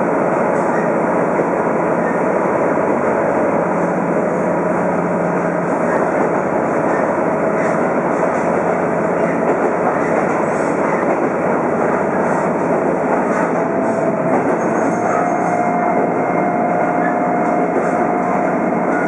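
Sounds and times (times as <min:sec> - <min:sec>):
railcar engine and wheels rumbling: 0:00.0 - 0:19.0.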